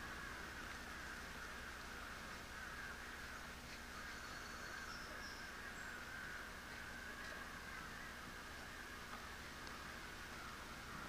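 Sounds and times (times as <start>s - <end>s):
distant crows cawing: 0.0s - 11.0s
steady background hum: 0.0s - 11.0s.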